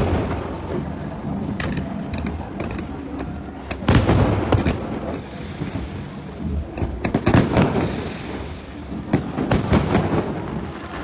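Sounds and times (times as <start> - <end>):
fireworks bursting with sharp bangs: 0.0 - 11.0
rumble of distant bursts: 0.0 - 11.0.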